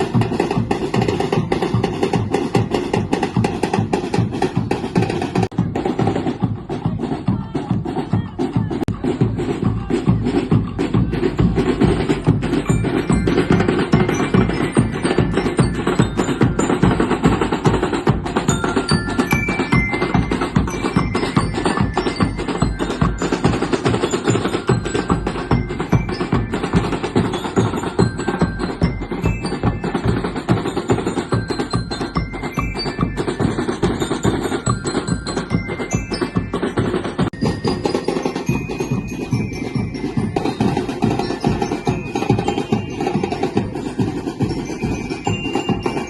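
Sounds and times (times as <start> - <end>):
bell-like mallet notes: 0.0 - 46.0
fast dense percussion: 0.0 - 46.0.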